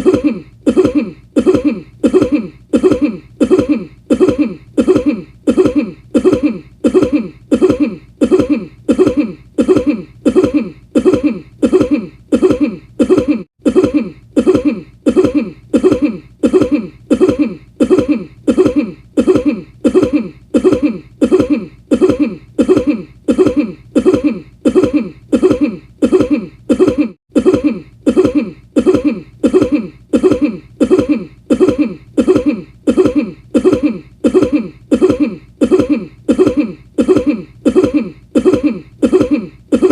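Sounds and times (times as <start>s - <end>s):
short cough: 0.0s - 39.9s.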